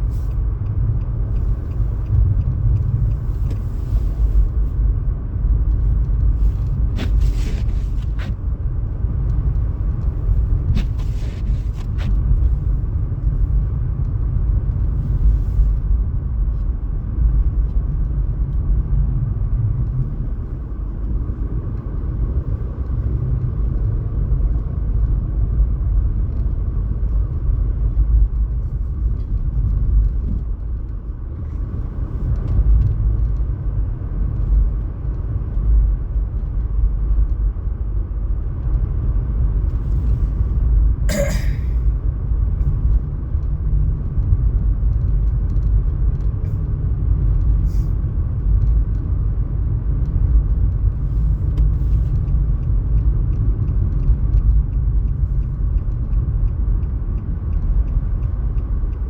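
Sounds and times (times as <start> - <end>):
low rumble: 0.0 - 59.0.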